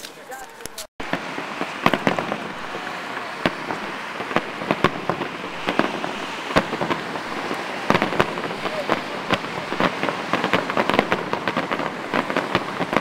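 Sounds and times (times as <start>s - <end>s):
fireworks bangs: 0.0s - 13.0s
steady hiss: 1.0s - 13.0s.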